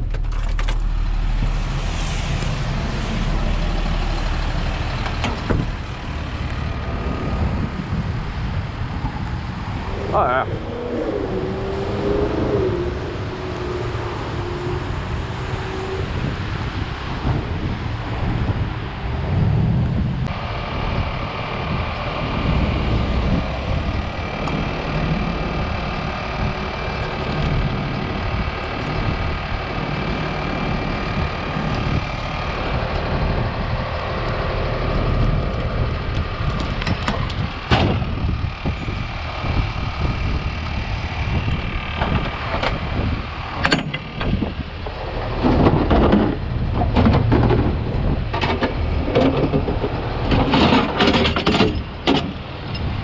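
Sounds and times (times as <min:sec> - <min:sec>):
traffic noise: 0:00.0 - 0:53.0
truck engine running: 0:00.0 - 0:53.0
wind: 0:00.0 - 0:53.0.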